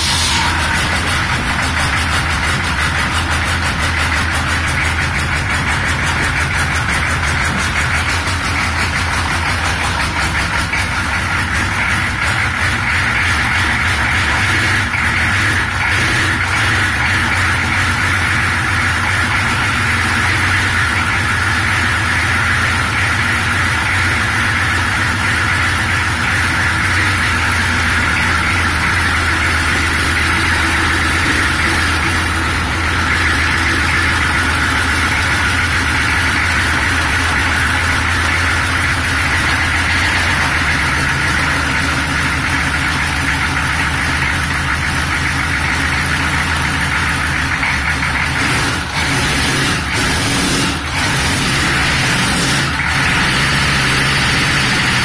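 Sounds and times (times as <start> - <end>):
diesel engine idling rough: 0.0 - 55.0.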